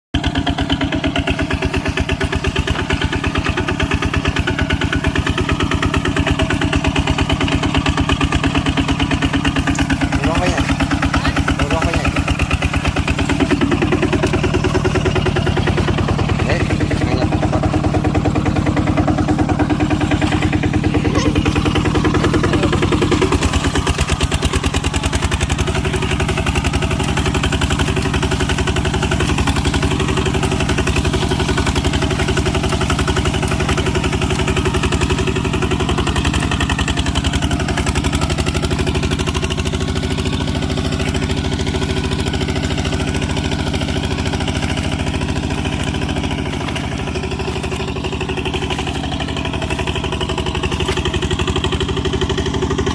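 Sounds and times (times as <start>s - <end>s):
tractor engine chugging: 0.2s - 52.9s.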